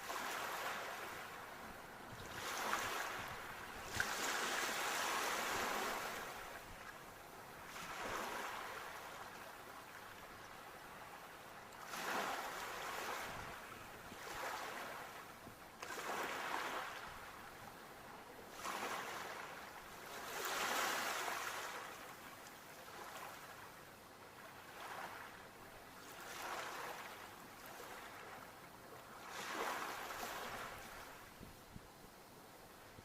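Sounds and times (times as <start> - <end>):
sea waves breaking on shore: 0.0 - 17.7, 18.5 - 23.8, 24.4 - 25.4, 26.0 - 31.5.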